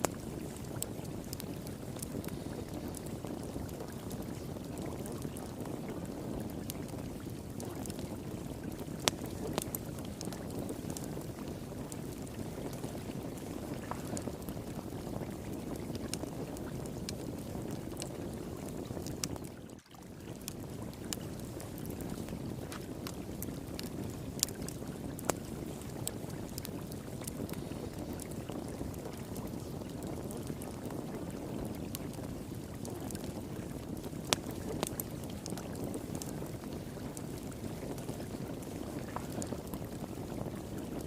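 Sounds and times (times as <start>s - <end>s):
wood fire popping and crackling: 0.0s - 41.0s.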